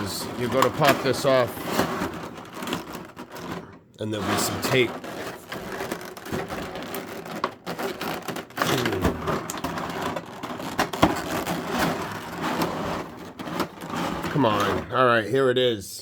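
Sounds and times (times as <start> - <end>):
plastic packaging crackling: 0.0 - 14.9.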